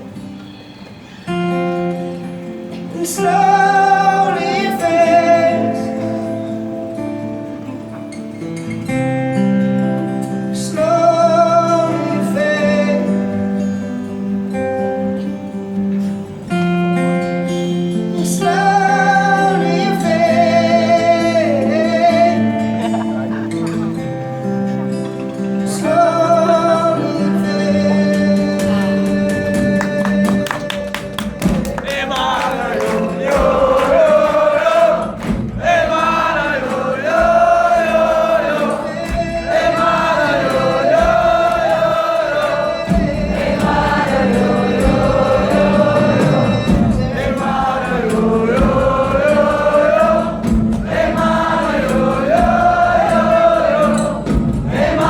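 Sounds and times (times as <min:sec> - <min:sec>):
wordless singing: 0:02.6 - 0:07.0, 0:10.2 - 0:14.3, 0:18.0 - 0:55.0.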